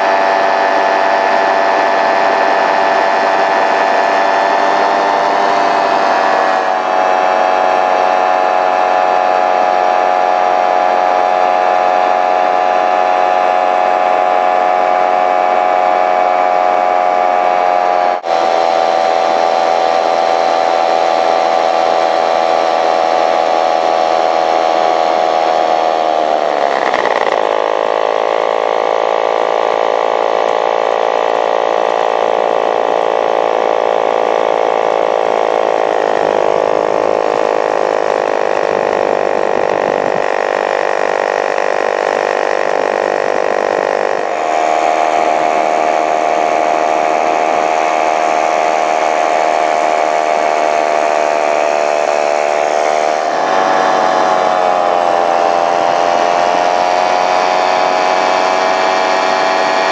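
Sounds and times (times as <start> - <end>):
engine and propeller running: 0.0 - 59.9.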